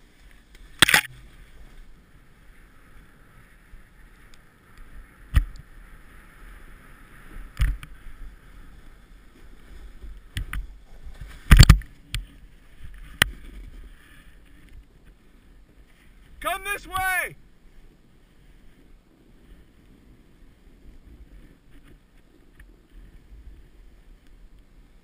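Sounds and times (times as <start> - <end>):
snowboard sliding through snow: 0.0 - 25.0.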